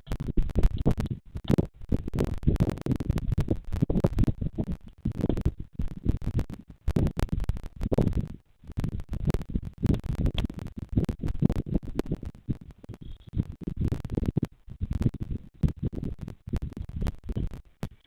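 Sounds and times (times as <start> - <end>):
crackles and clicks: 0.0 - 18.0.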